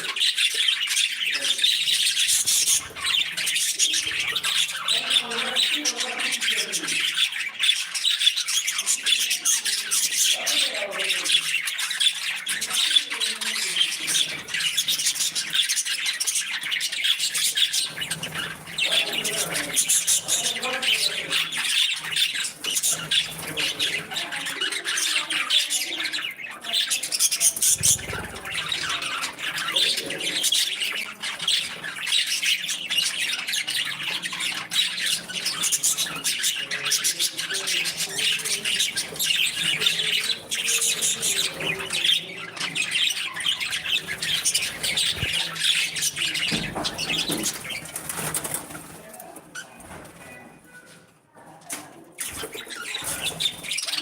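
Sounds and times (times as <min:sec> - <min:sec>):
budgerigars chattering and chirping: 0:00.0 - 0:50.6, 0:52.1 - 0:54.0.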